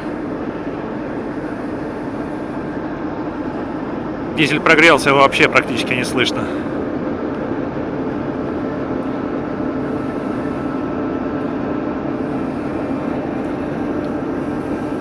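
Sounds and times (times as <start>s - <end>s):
diesel locomotive engine humming: 0.0s - 15.0s
faint steady whine: 0.0s - 15.0s.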